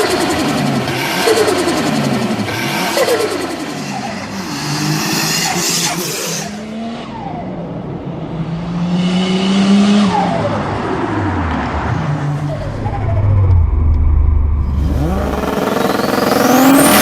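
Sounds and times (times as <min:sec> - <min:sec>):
turbocharged car engine revving: 0:00.0 - 0:07.4, 0:08.2 - 0:17.0.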